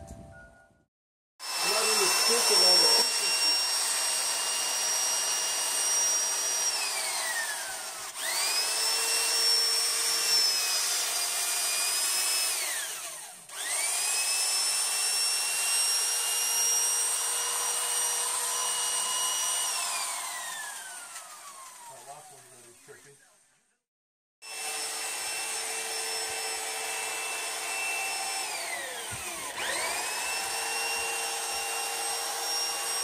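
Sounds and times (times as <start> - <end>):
power tool motor whining: 1.4 - 22.8, 24.4 - 33.0.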